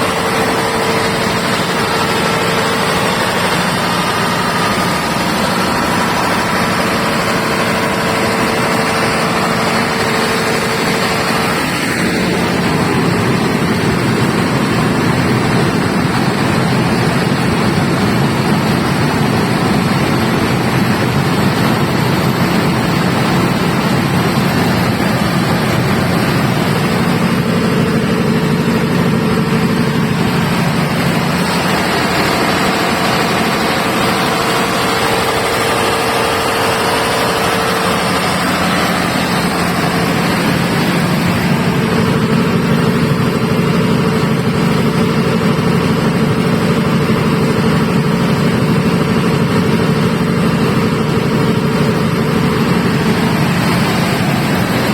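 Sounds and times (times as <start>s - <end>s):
diesel generator running: 0.0s - 54.9s.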